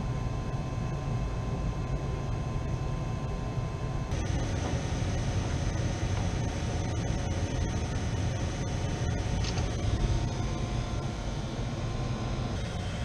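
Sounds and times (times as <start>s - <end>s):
faint high whine: 0.0s - 13.0s
machine rumbling with hiss: 0.0s - 13.0s.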